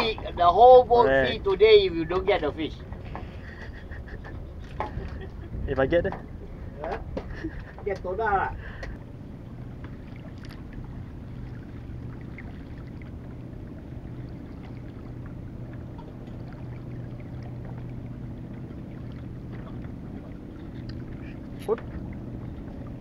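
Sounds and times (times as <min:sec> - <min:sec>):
boat engine humming: 0:00.0 - 0:23.0
water noise: 0:00.0 - 0:23.0.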